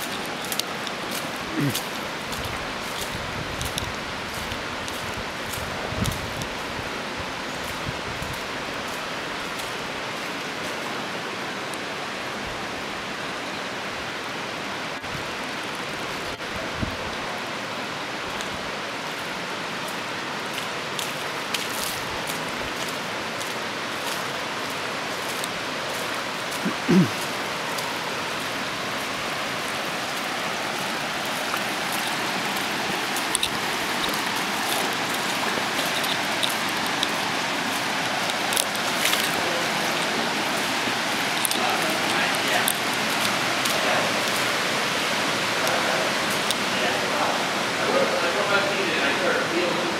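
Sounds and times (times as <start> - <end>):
creek water flowing over rock: 0.0 - 49.9.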